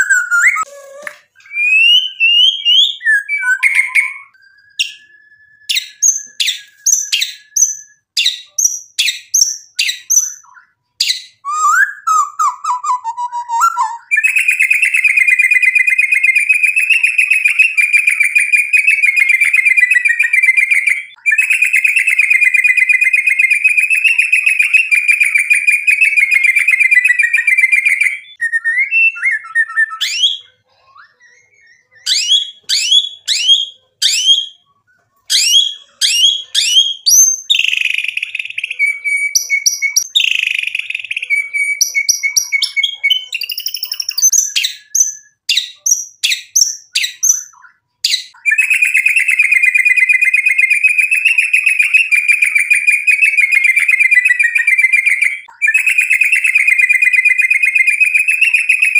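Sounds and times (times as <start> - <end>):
bird singing whistles and trills: 0.0 - 34.7, 35.3 - 58.9.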